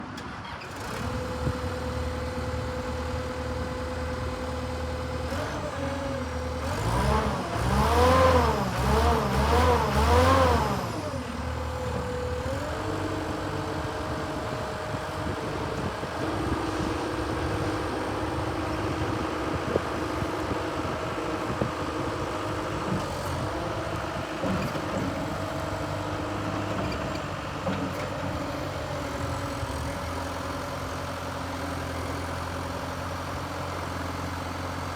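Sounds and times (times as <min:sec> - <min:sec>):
diesel engine revving: 0:00.7 - 0:34.8.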